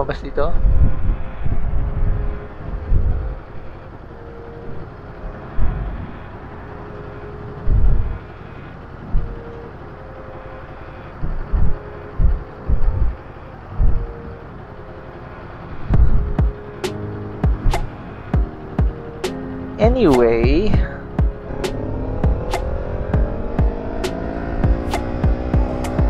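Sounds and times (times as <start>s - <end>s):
motorcycle running at low speed: 0.6s - 10.0s, 10.6s - 19.0s, 19.9s - 26.0s.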